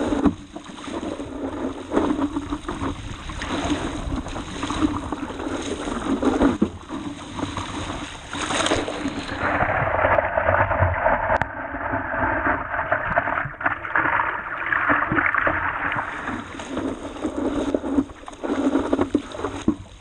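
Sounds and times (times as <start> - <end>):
paddle strokes splashing: 0.0 - 20.0
water rushing and splashing: 0.0 - 20.0.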